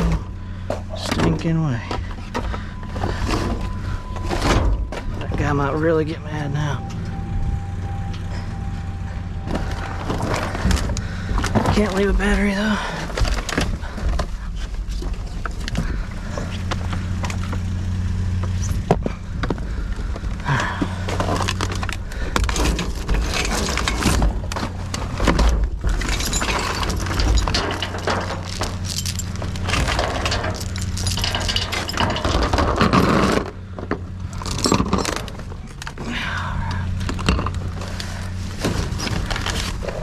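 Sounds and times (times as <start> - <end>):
scrap clattering in a dumpster: 0.0 - 6.1, 9.4 - 17.8, 18.4 - 40.0
steady low hum: 0.0 - 40.0.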